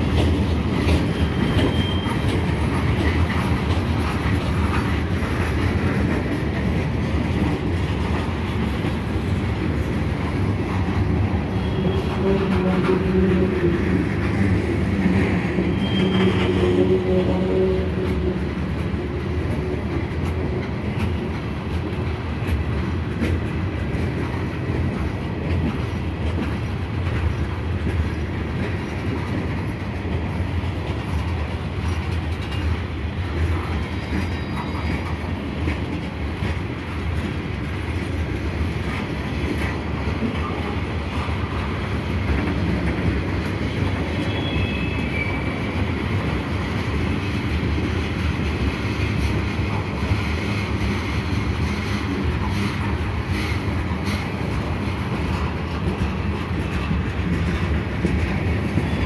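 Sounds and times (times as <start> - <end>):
freight train wheels rumbling: 0.0 - 59.0
wheels clicking over rail joints: 0.0 - 59.0.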